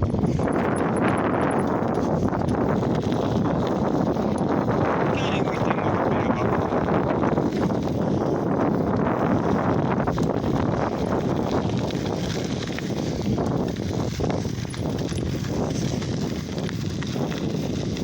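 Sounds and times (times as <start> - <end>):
bike knocks and rattles: 0.0 - 4.9, 6.7 - 18.0
bicycle tyres on road: 0.0 - 18.0
wind on microphone: 0.0 - 18.0.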